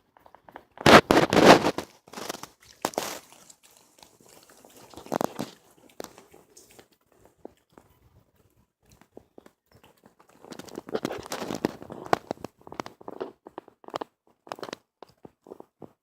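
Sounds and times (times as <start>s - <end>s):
dogs crunching food: 0.0s - 16.0s.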